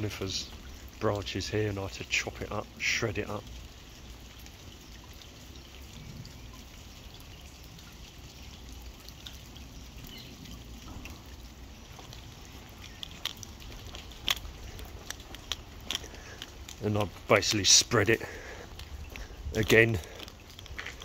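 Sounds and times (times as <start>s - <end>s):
water dripping into puddles: 0.0s - 21.0s.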